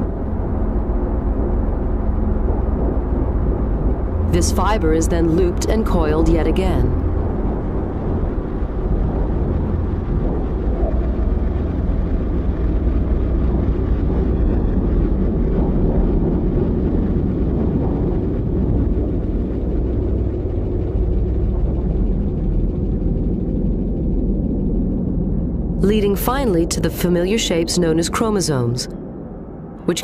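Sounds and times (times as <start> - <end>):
low rumbling drone: 0.0 - 30.0.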